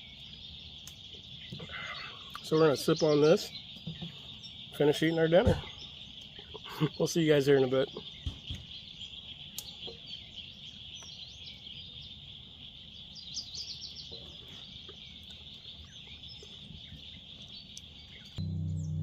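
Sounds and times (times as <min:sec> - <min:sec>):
high insect chorus: 0:00.0 - 0:18.4
bird chirps: 0:00.0 - 0:19.0.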